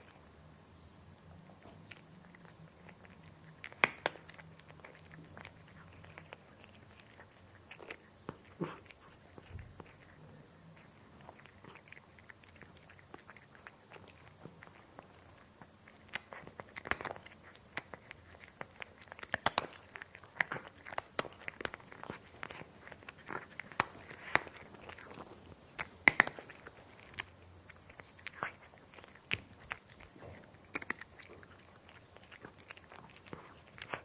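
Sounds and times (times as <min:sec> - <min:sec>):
cat crunching dry food: 0:01.5 - 0:34.0.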